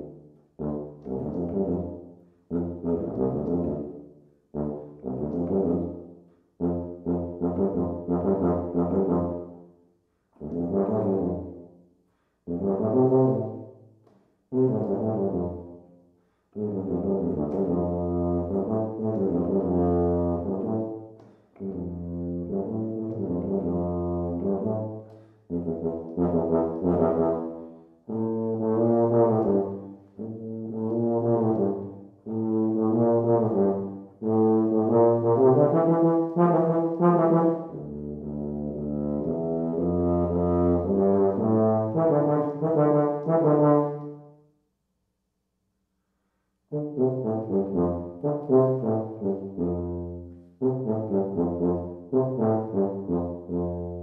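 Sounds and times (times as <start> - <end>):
solo tuba playing: 0.0 - 11.8, 12.4 - 13.8, 14.4 - 44.3, 46.6 - 54.0.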